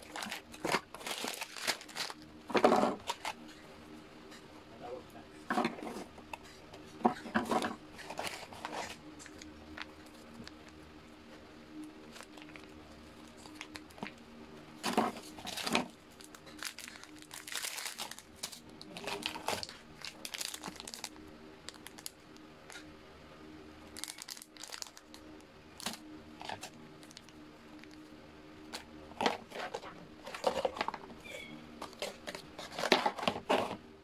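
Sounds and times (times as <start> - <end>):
foil and plastic pouches crinkling: 0.0 - 3.6, 5.5 - 10.8, 11.8 - 14.2, 14.8 - 22.8, 23.9 - 28.0, 28.7 - 33.8.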